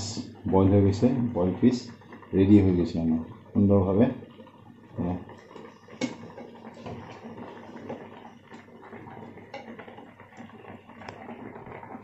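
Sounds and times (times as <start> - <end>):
simmering pan hiss: 0.0 - 12.0.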